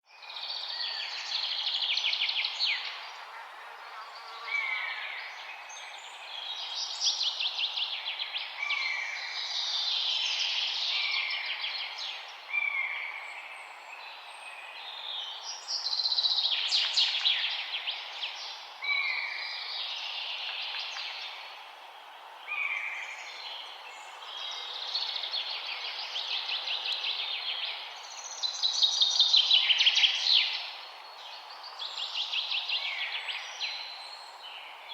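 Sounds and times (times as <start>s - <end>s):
songbirds singing: 0.1s - 34.9s
steady background hiss: 0.3s - 34.9s.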